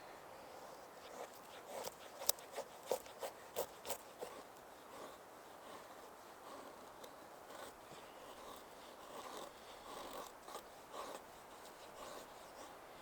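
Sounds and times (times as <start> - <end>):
knife scraping wood: 1.0 - 12.8.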